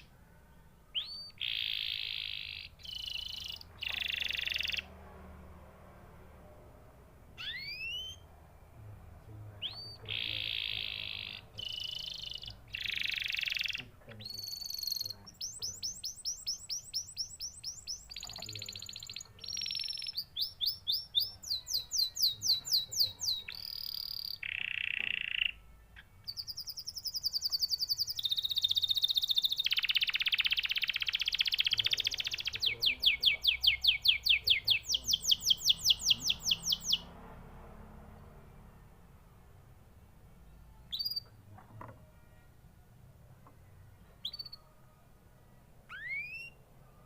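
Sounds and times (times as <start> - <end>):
canary singing trills: 0.0 - 5.0, 7.3 - 8.4, 9.5 - 37.2, 40.2 - 42.5, 43.4 - 47.0.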